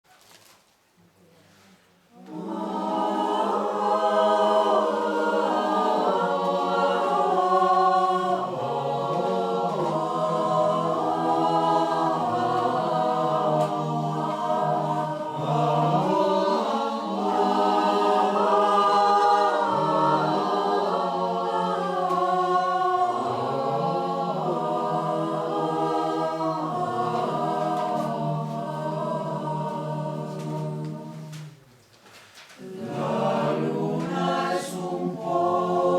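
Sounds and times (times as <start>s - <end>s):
choir singing in harmony: 2.1s - 31.7s, 32.6s - 35.9s.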